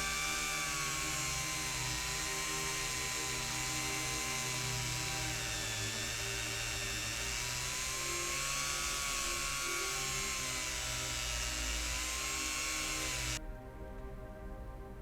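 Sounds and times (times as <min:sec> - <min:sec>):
small electric motor whining: 0:00.0 - 0:13.4.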